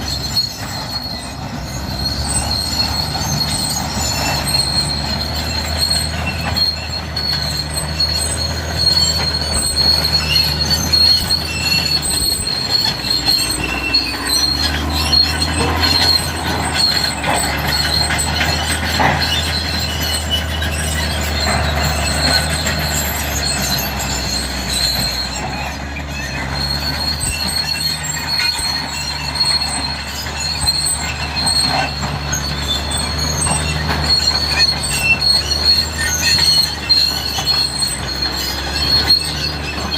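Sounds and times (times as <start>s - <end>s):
diesel engine running: 0.0s - 39.9s
steel tracks squealing and clattering: 0.0s - 39.9s.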